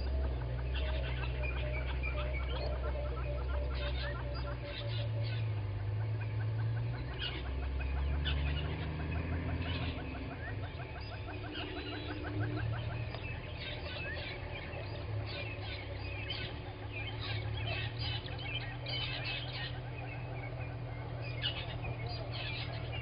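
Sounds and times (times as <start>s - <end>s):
birds calling: 0.0s - 23.0s
steady low hum: 0.0s - 23.0s.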